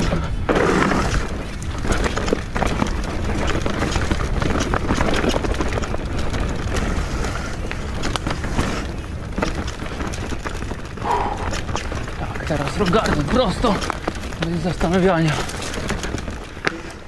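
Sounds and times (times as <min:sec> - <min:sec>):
bike rattling and knocking: 0:00.0 - 0:17.0
tyres rumbling on dirt trail: 0:00.0 - 0:17.0.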